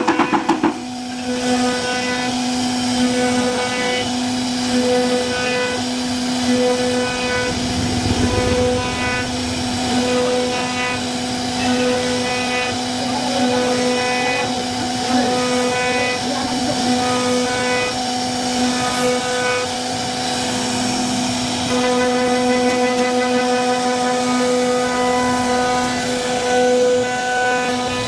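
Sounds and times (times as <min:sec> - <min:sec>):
router spindle whining: 0:00.0 - 0:28.0.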